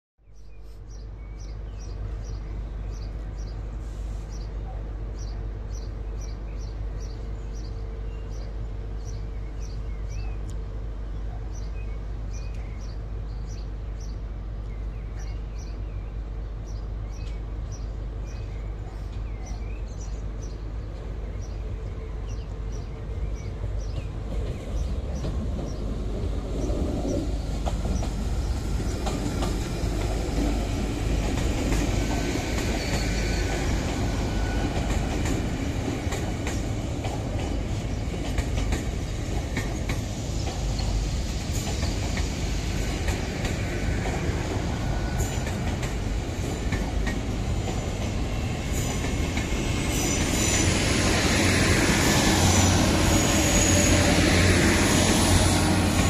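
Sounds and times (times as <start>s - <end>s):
train passing: 1.0s - 56.0s.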